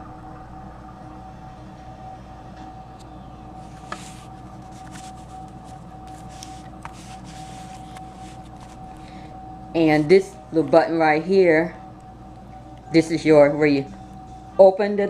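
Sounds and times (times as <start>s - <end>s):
electrical hum with faint whine: 0.0s - 15.0s.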